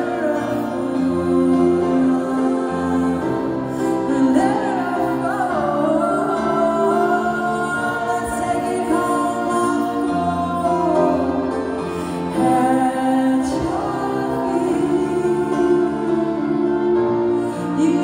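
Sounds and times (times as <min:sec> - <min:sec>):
piano: 0:00.0 - 0:18.0
violin: 0:00.0 - 0:18.0
woman singing: 0:00.0 - 0:18.0.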